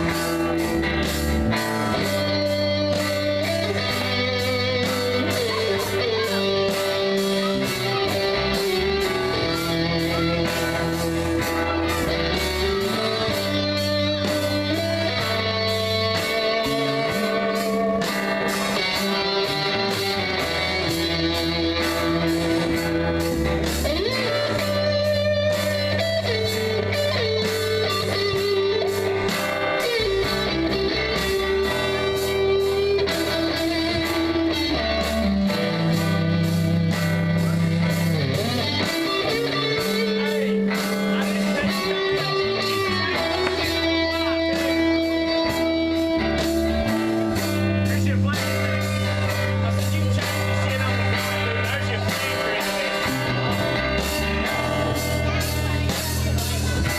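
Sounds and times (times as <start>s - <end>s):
bass guitar: 0.0s - 56.9s
drums: 0.0s - 56.9s
lead electric guitar melody: 0.0s - 56.9s
rhythm guitar: 0.0s - 56.9s.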